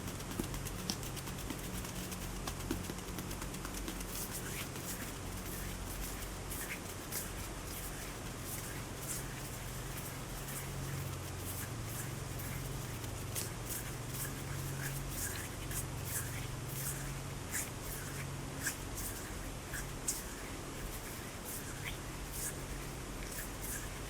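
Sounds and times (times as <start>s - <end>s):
hands rubbing together: 0.0s - 24.0s
steady low hum: 0.0s - 24.0s.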